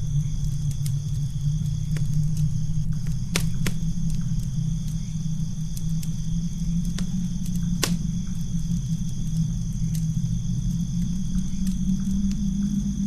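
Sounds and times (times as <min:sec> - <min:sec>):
campfire crackling and popping: 0:00.0 - 0:13.0
steady low rumble: 0:00.0 - 0:13.0.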